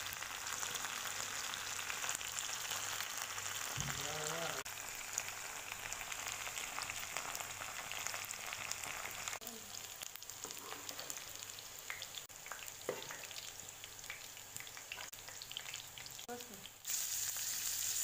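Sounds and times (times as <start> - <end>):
okra sizzling in hot oil: 0.0 - 18.0.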